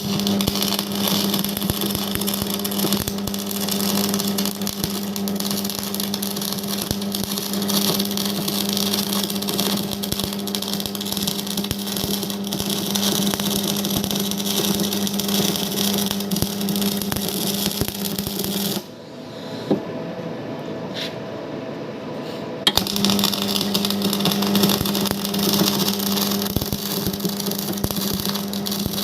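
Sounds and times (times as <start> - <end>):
arc welding crackling hiss: 0.0 - 18.9, 22.7 - 29.0.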